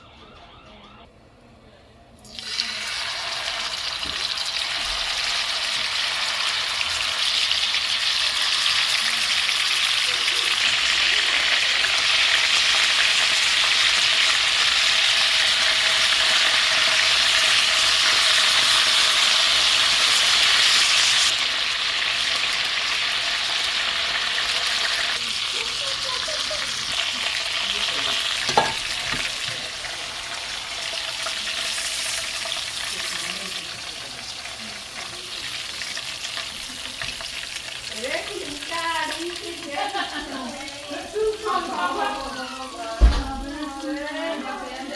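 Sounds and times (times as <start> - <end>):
chicken frying sizzle: 2.3 - 44.9.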